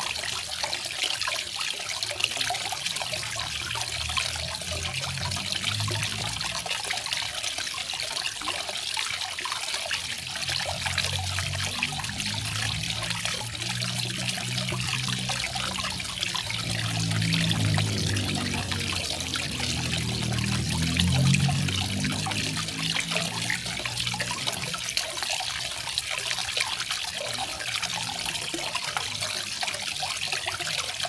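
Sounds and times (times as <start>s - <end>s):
water trickling and splashing: 0.0s - 31.0s.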